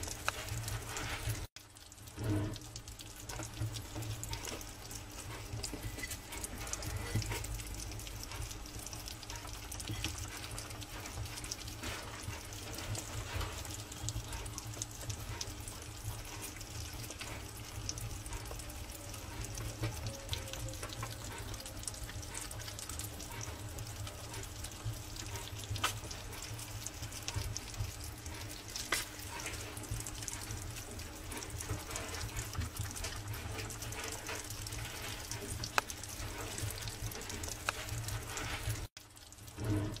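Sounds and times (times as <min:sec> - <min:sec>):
animals lapping and chewing: 0:00.0 - 0:40.0.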